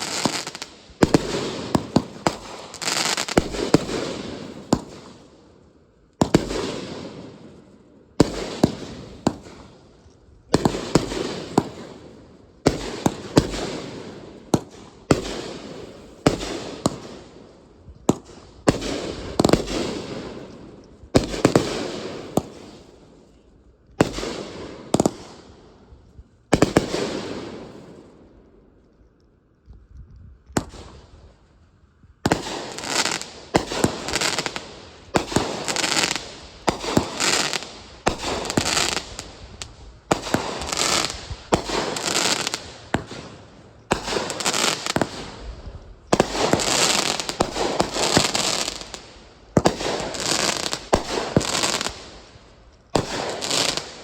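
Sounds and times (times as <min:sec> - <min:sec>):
fireworks bangs with crackle: 0:00.0 - 0:05.2, 0:06.2 - 0:07.6, 0:08.2 - 0:23.0, 0:24.0 - 0:25.7, 0:26.5 - 0:28.1, 0:30.5 - 0:31.2, 0:32.2 - 0:54.0.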